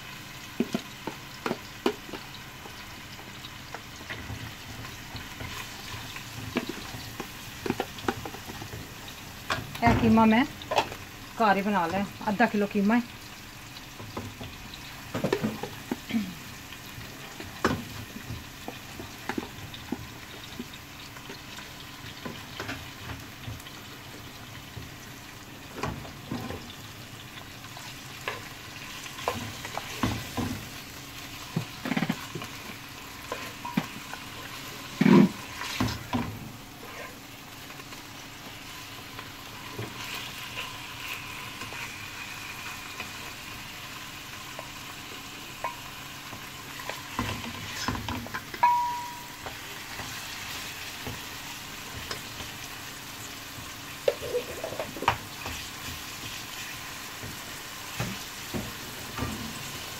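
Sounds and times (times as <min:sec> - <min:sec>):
onions sizzling in oil: 0:00.0 - 0:59.9.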